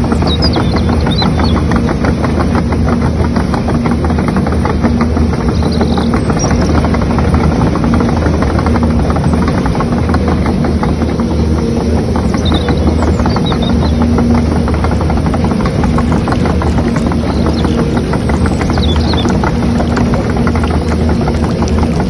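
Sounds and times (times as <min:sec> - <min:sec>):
excavator engine knocking: 0:00.0 - 0:22.0.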